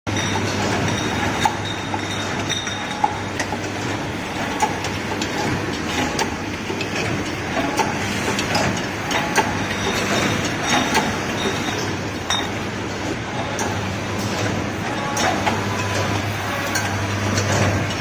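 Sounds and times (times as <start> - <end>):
machine clicks and knocks: 0.1 - 18.0
printing machine mechanical hum: 0.1 - 18.0.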